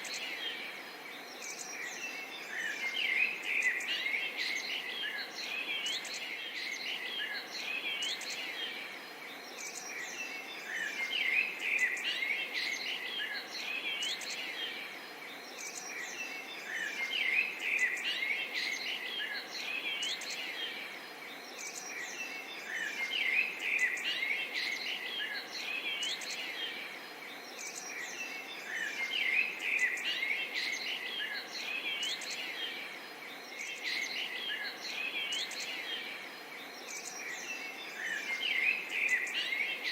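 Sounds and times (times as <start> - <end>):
small birds chirping and singing: 0.0 - 39.9
steady background hiss: 0.0 - 39.9.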